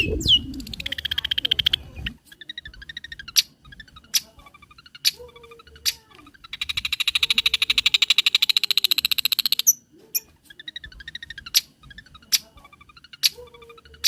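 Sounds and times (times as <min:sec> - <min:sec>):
bird rattling trill: 0:02.4 - 0:14.0.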